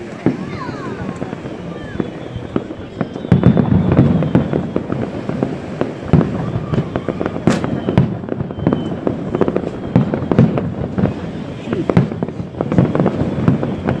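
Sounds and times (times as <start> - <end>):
firework crackling: 0.0 - 14.0
firework shells bursting: 0.0 - 14.0.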